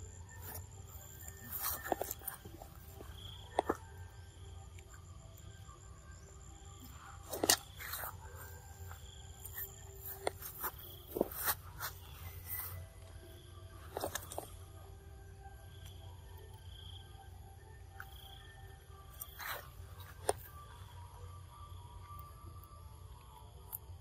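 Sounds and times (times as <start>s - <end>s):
faint background drone: 0.0s - 24.0s.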